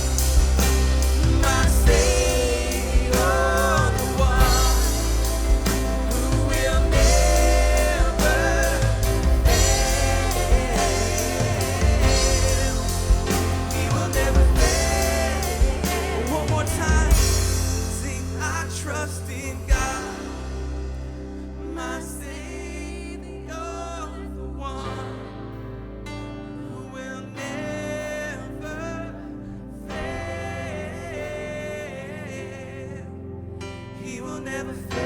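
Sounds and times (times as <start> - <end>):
voices singing: 0.0 - 25.8, 26.6 - 35.0
live gospel band playing: 0.0 - 35.0.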